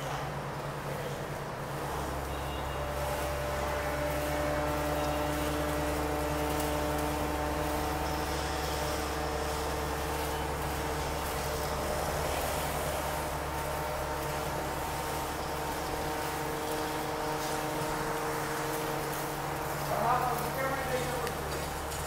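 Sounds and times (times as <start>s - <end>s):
air compressor droning: 0.0s - 22.0s.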